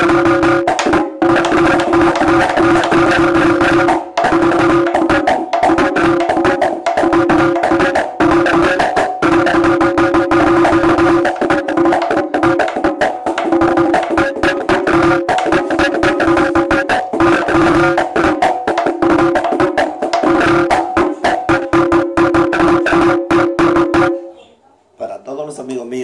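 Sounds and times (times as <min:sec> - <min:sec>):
drum played with a stick: 0:00.0 - 0:24.4.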